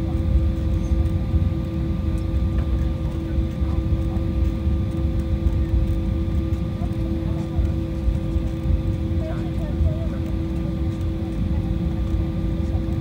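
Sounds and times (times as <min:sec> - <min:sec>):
aircraft cabin rumble: 0:00.0 - 0:13.0
multi-tone engine hum: 0:00.0 - 0:13.0.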